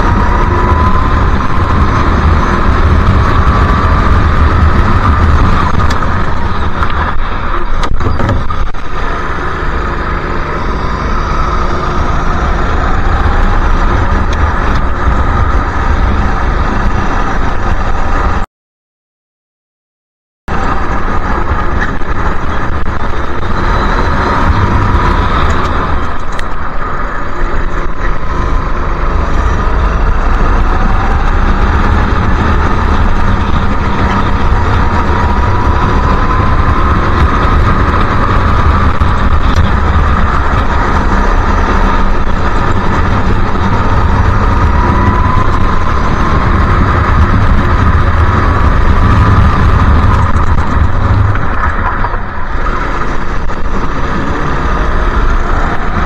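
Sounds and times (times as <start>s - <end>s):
go-kart engine running hard: 0.0s - 18.4s, 20.5s - 56.0s.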